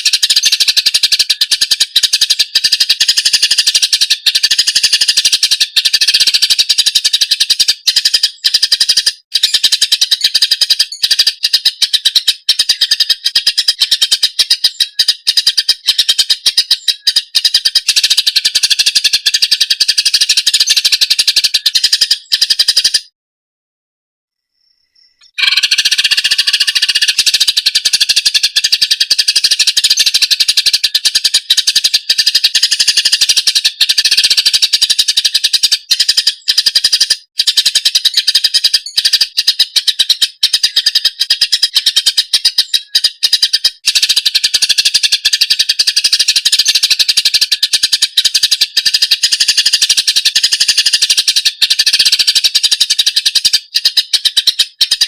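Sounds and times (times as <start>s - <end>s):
bird chattering and chirping: 0.0s - 23.1s, 24.9s - 55.0s.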